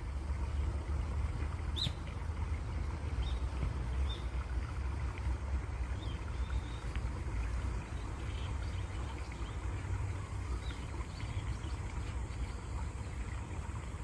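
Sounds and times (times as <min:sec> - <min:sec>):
running water rumbling: 0:00.0 - 0:14.0.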